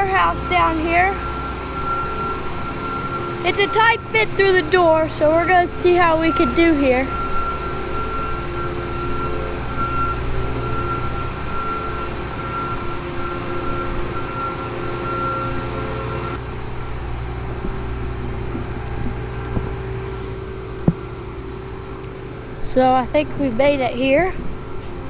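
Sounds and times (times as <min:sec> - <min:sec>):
diesel engine running: 0:00.0 - 0:25.0
thin high whine: 0:00.0 - 0:25.0.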